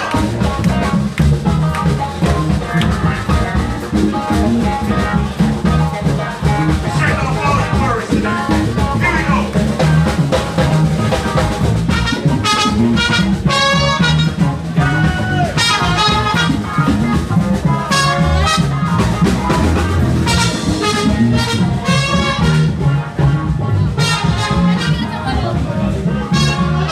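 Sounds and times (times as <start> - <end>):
band playing swing music: 0.0 - 26.9
bass and drums: 0.0 - 26.9
horn phrases: 0.0 - 26.9.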